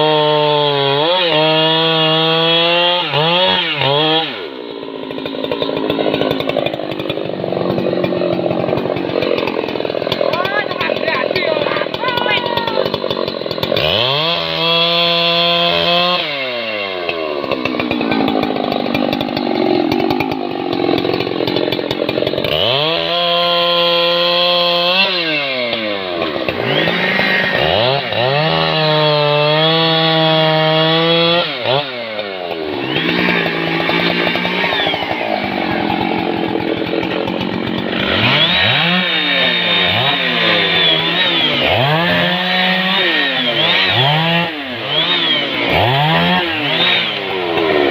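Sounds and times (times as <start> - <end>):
chainsaws cutting logs: 0.0 - 47.9.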